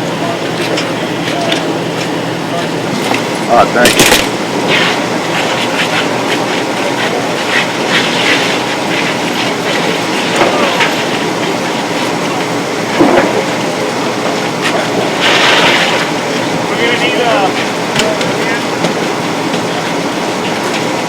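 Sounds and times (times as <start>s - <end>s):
helicopter rotors running: 0.0s - 21.0s.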